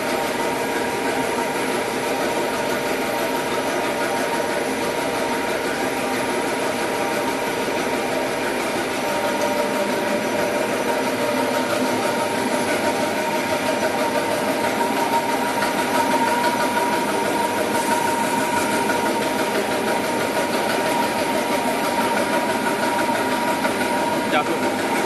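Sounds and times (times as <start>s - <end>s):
printing machine running: 0.0s - 25.0s.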